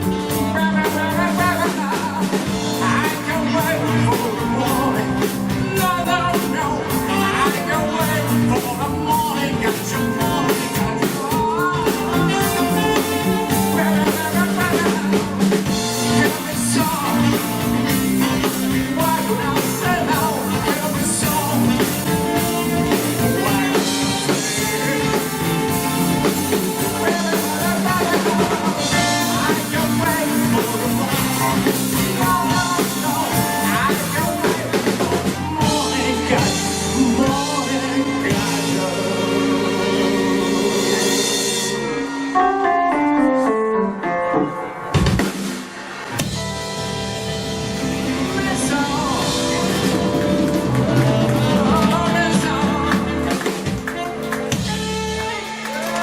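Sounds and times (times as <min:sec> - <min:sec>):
drum kit: 0:00.0 - 0:42.8, 0:44.5 - 0:56.0
live band playing a song: 0:00.0 - 0:56.0.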